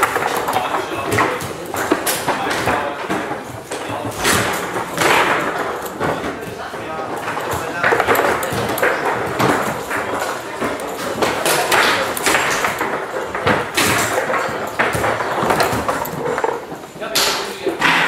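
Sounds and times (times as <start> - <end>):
faint background chatter: 0.0 - 18.0
foosball knocks and clacks: 0.0 - 18.0.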